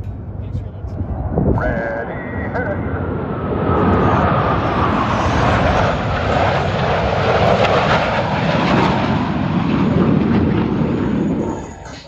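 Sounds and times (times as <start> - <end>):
jet flying past: 0.1 - 12.0.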